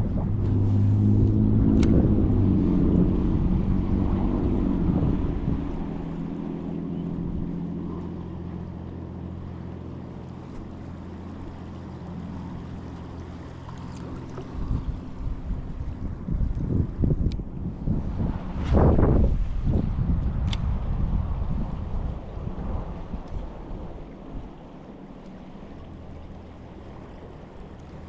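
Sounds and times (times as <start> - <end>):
vehicle engine hum: 0.0 - 28.0
wind buffeting microphone: 0.0 - 28.0.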